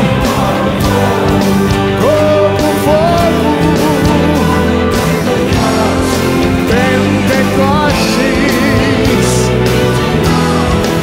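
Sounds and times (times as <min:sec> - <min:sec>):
electric guitar lead line: 0:00.0 - 0:11.0
rock band playing: 0:00.0 - 0:11.0.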